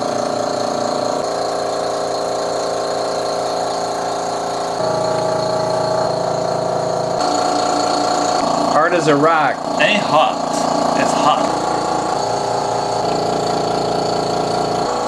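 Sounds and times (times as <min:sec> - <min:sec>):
vacuum pump motor hum: 0:00.0 - 0:15.0.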